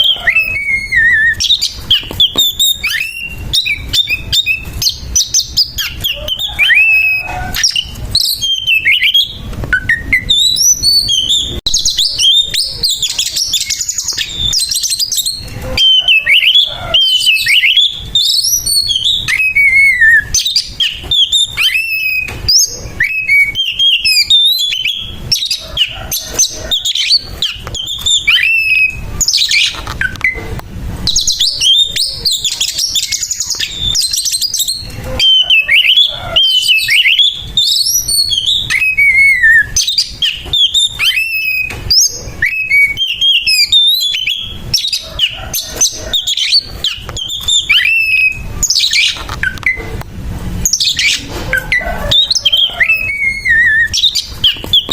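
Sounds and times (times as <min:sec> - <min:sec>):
bird singing whistled trills: 0:00.0 - 0:30.4, 0:31.0 - 0:49.9, 0:50.6 - 0:54.9.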